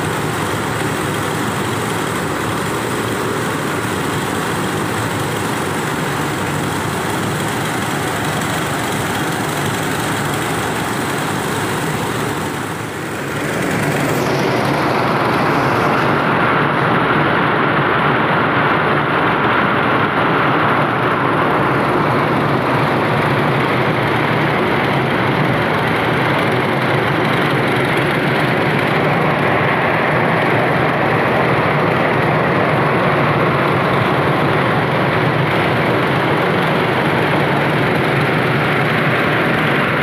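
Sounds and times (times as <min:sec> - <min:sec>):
rice mill machine din: 0:00.0 - 0:16.5, 0:21.2 - 0:40.0
rice pouring from chute: 0:00.0 - 0:40.0.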